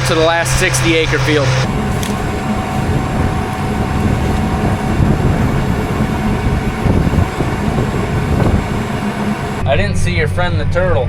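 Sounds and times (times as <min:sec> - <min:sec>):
faint steady hum: 0:00.0 - 0:09.6
tractor engine rumble: 0:00.0 - 0:09.6.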